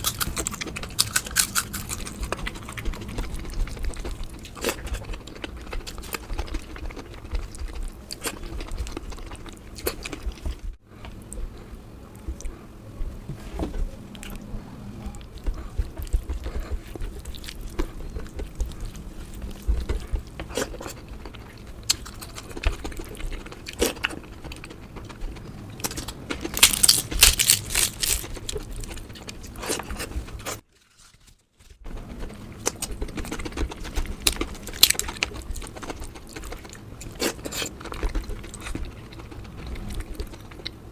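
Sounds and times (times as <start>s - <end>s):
food crunching: 0.0s - 12.6s, 15.1s - 40.9s
person chewing: 0.0s - 12.6s, 14.1s - 31.3s, 31.9s - 40.9s.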